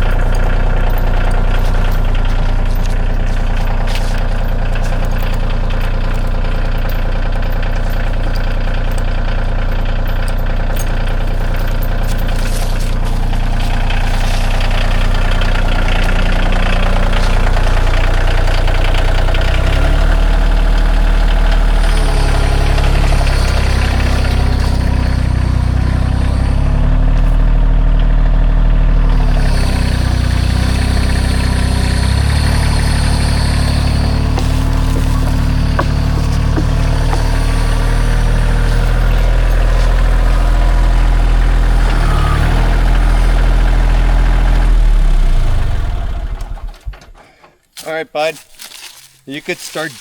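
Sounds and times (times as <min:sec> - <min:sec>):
engine droning: 0:00.0 - 0:47.7.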